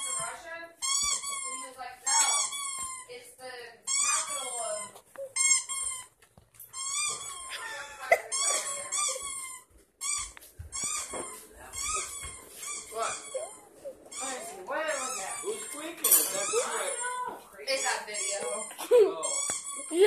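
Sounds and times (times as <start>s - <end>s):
squeaky dog toy squeaks: 0.0s - 20.0s.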